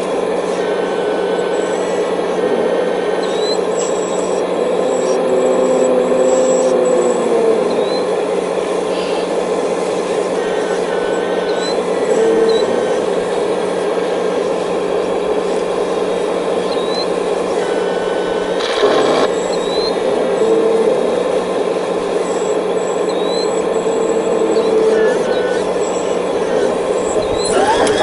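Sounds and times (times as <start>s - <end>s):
excavator engine running: 0.0s - 28.0s
hydraulic pump whining: 0.0s - 28.0s.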